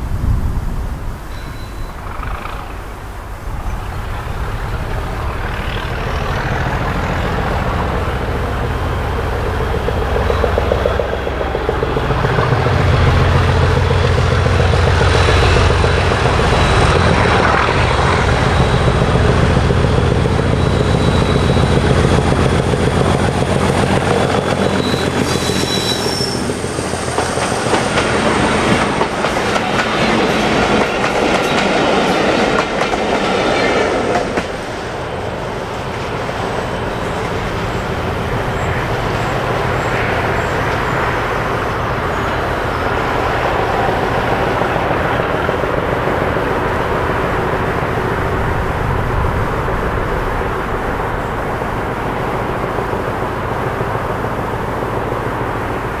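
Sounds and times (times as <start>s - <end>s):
diesel locomotive engine growling: 0.0s - 56.0s
train wheels clickety-clack: 1.3s - 2.8s, 3.8s - 56.0s.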